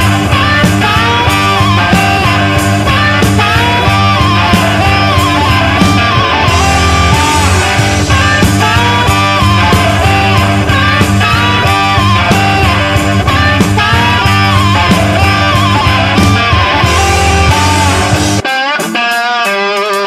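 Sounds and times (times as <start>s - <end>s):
electric guitar bending lines: 0.0s - 20.0s
rock music: 0.0s - 20.0s.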